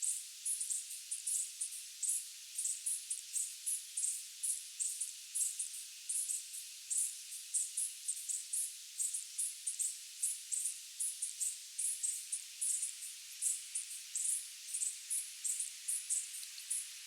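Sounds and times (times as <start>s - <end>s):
steady hiss of insects: 0.0s - 17.0s.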